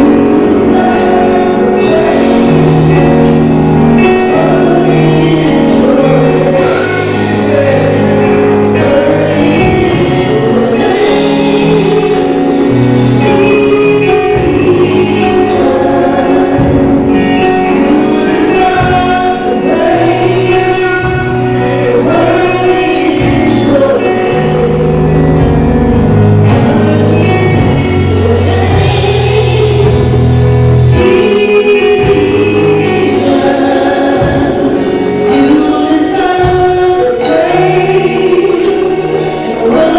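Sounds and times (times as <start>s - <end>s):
gospel choir singing: 0.0s - 39.9s
live band: 0.0s - 39.9s
low bass notes: 0.0s - 39.9s.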